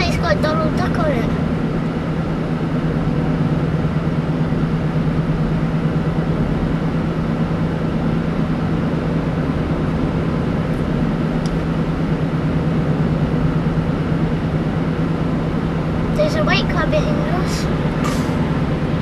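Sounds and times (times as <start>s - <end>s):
car cabin road noise: 0.0s - 19.0s.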